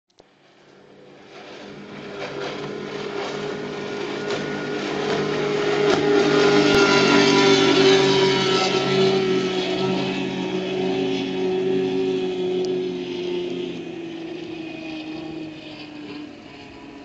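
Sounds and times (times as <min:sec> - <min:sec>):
outboard motor running flat out: 0:00.4 - 0:17.0.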